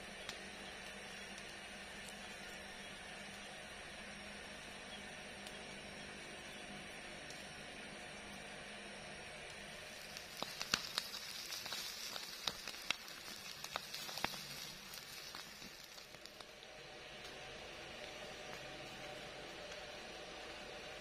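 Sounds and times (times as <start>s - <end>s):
fire crackling and popping: 0.0s - 21.0s
fish sizzling over embers: 0.0s - 21.0s.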